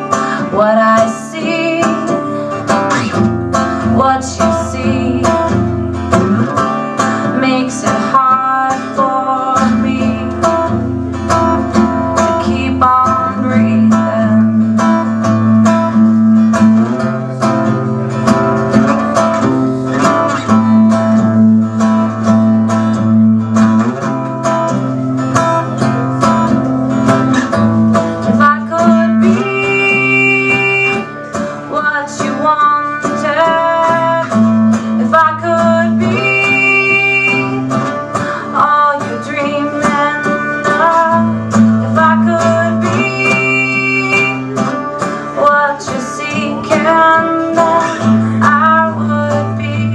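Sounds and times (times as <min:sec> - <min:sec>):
acoustic guitar strumming chords: 0:00.0 - 0:49.9.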